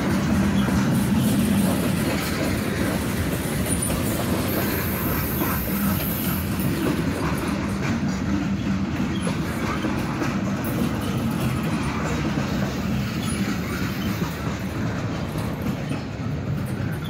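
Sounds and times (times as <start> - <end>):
train wheels rumbling and clattering: 0.0 - 17.0.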